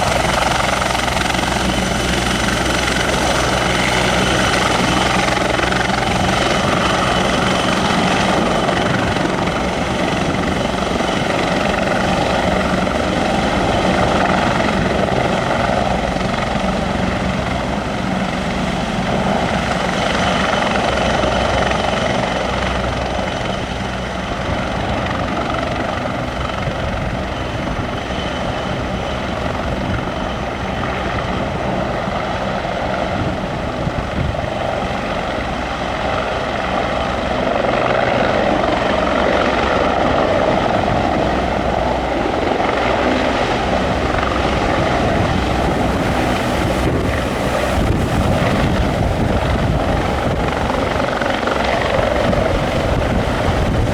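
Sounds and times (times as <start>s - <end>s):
helicopter turbine and rotor: 0.0s - 53.9s.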